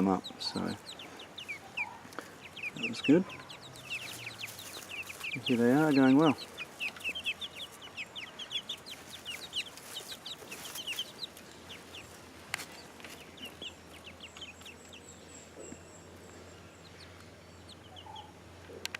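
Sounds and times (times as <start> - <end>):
chicks peeping: 0.0 - 18.9.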